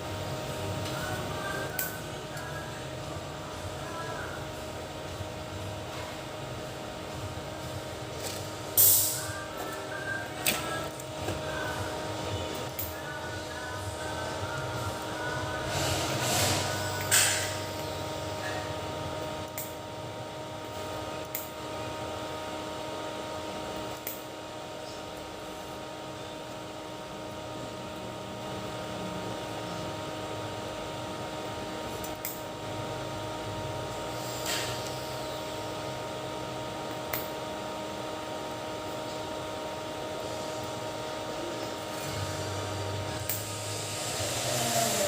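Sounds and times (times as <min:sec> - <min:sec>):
electric fan humming: 0:00.0 - 0:45.0.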